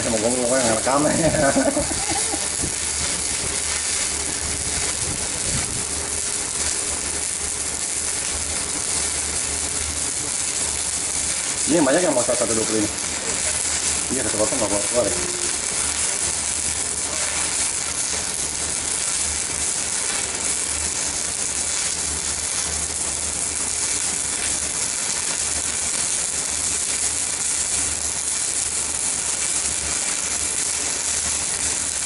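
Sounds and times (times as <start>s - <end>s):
low uneven hum: 0.0s - 26.2s
welding arc crackling: 0.0s - 32.0s.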